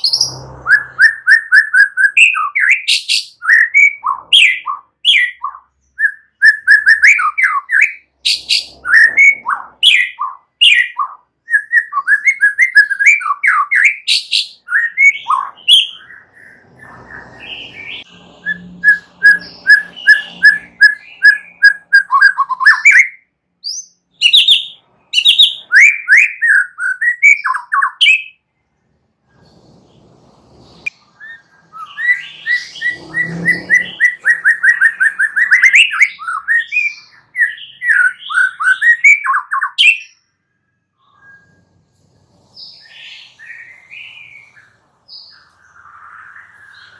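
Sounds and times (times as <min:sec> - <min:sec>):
bird singing whistles and chatter: 0:00.0 - 0:28.4, 0:30.8 - 0:40.2, 0:41.0 - 0:41.7.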